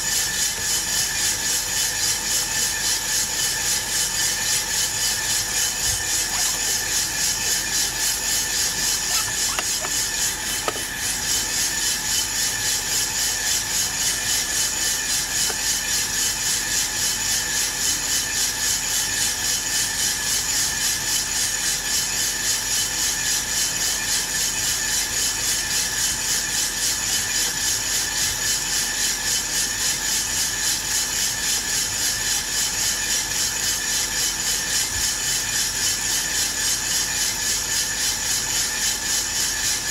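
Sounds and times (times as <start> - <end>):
roaster hum: 0.0 - 39.9.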